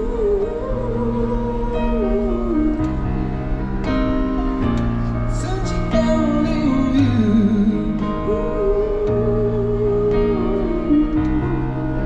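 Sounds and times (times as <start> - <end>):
long held low notes: 0.0 - 12.0
slow wavering melody: 0.0 - 12.0.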